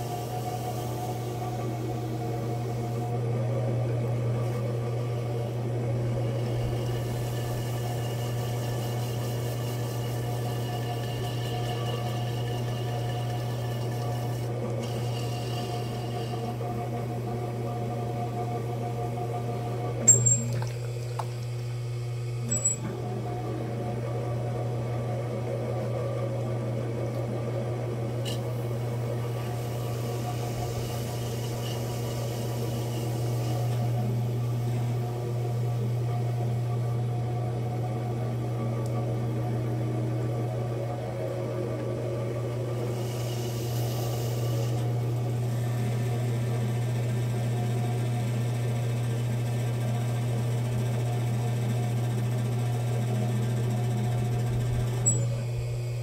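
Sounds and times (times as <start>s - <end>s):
potter's wheel motor humming: 0.0s - 56.0s.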